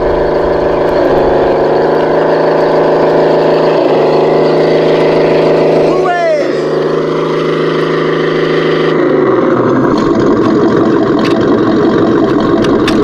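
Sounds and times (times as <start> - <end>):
rc truck motor drone: 0.0 - 13.0.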